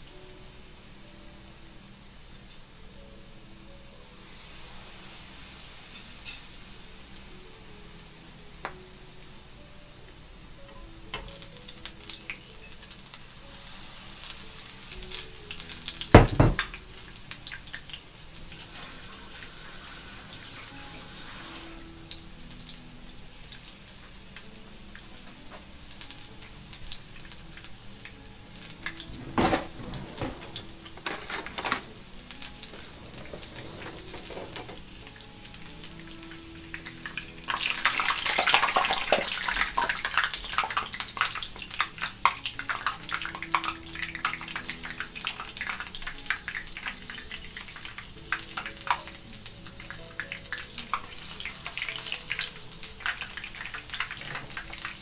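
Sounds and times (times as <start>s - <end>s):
shrimp deep-frying in oil: 0.0s - 55.0s.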